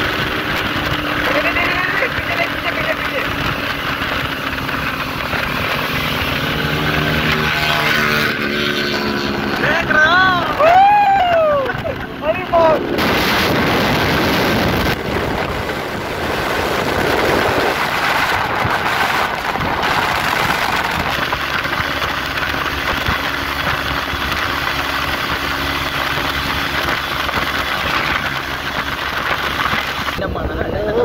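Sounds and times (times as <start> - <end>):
motorcycle engines humming: 0.0 - 31.0
wind and road noise: 0.0 - 31.0.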